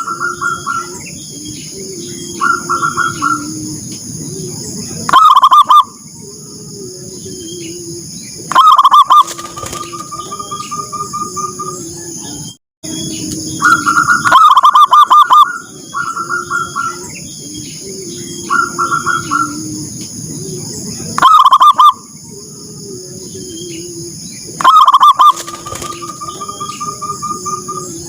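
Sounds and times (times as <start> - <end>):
lower softer cooing: 0.0 - 8.8, 10.2 - 25.1
doves cooing: 0.0 - 28.0.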